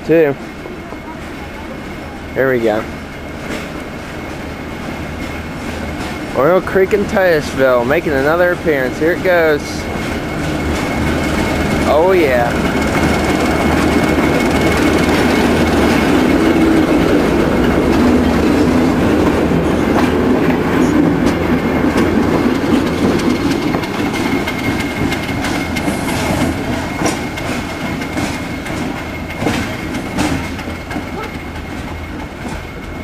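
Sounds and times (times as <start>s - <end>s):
locomotive engine rumble: 0.0s - 33.0s
steady high tone: 0.1s - 29.3s
wheels clicking over rail joints: 2.6s - 33.0s.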